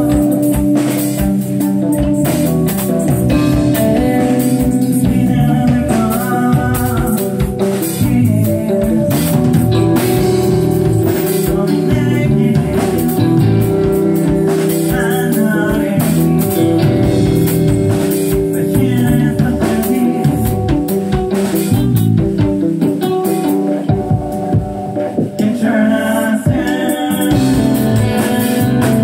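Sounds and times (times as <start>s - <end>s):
bass guitar: 0.0s - 29.0s
drum kit: 0.0s - 29.0s
electric guitar: 0.0s - 29.0s.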